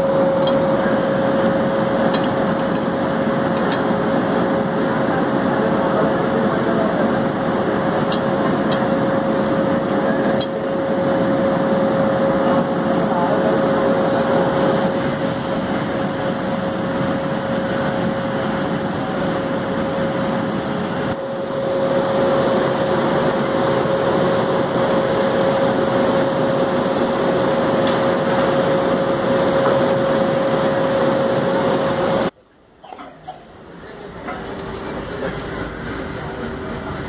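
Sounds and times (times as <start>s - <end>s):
constant hum tone: 0.0s - 37.0s
locomotive cooling blowers whirring: 0.0s - 37.0s.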